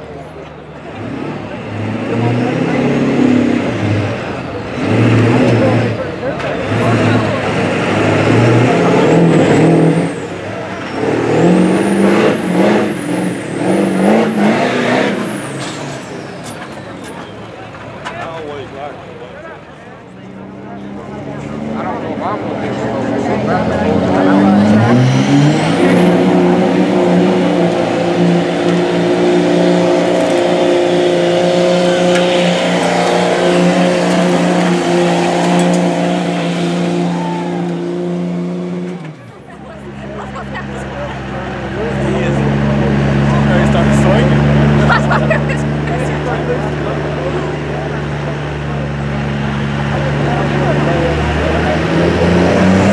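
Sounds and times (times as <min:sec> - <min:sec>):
diesel pickup engine revving hard: 0:00.0 - 0:17.2, 0:20.2 - 0:52.9.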